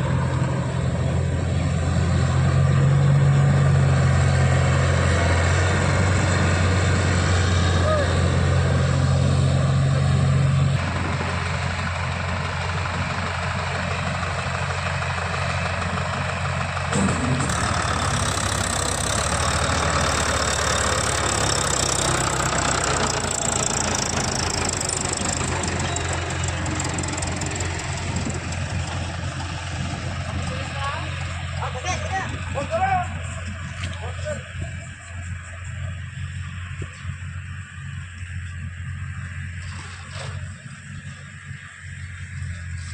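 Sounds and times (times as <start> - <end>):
diesel farm machinery engine: 0.0 - 42.9.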